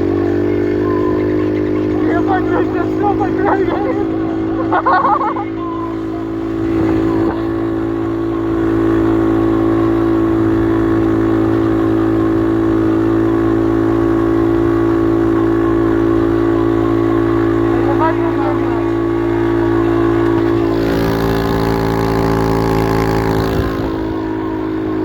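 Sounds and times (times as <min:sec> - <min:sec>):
motocross bike engine running: 0:00.0 - 0:25.0.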